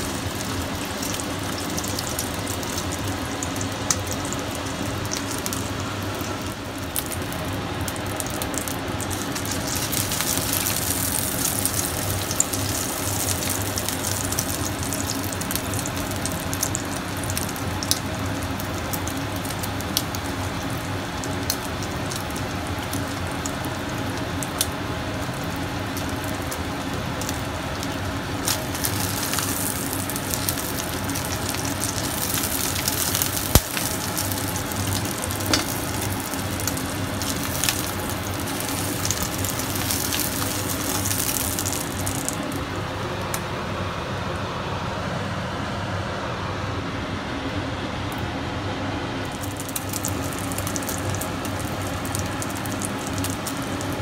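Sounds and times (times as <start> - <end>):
oil sizzling in a frying pan: 0.0 - 43.4, 49.2 - 54.0.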